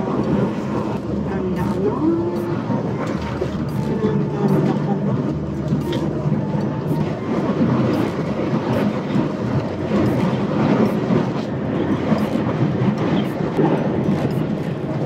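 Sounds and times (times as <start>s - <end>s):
diesel engine drone: 0.0s - 15.0s
road and tyre rumble: 0.0s - 15.0s.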